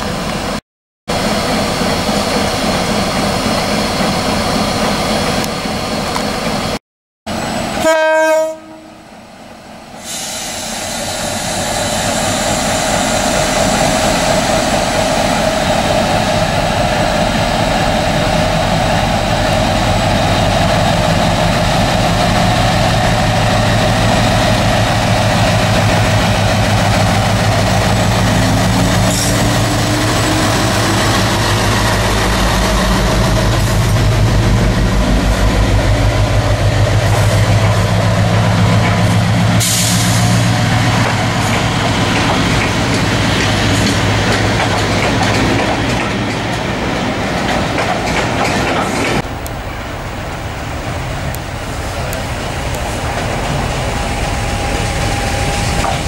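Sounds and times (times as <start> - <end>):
diesel locomotive passing: 0.0 - 56.0.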